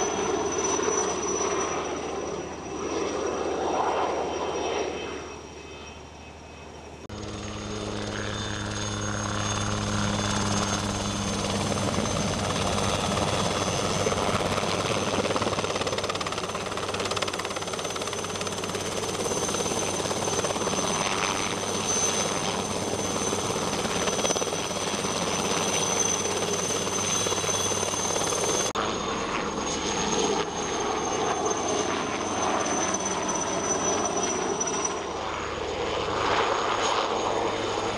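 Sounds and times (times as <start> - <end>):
helicopter flying close by: 0.0 - 37.9.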